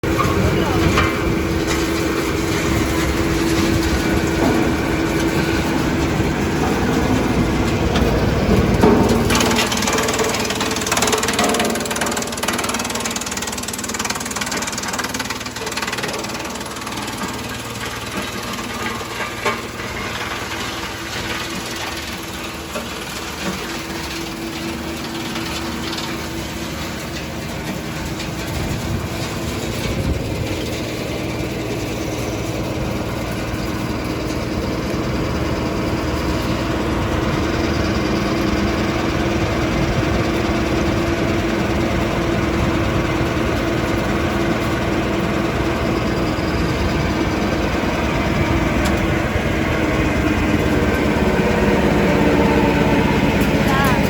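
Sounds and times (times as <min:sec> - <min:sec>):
wood chipper humming: 0:00.0 - 0:54.0.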